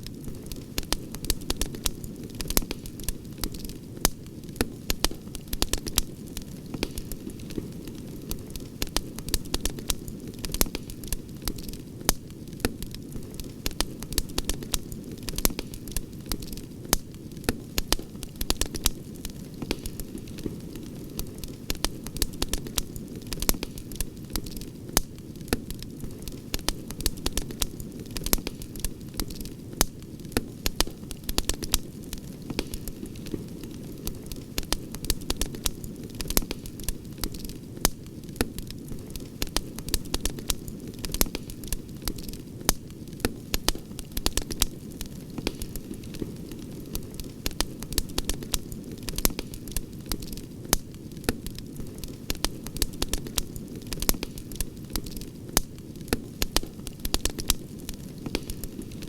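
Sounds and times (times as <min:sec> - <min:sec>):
campfire crackling: 0:00.0 - 0:59.0
fire pops and snaps: 0:00.0 - 0:59.0
low rumble of fire: 0:00.0 - 0:59.0.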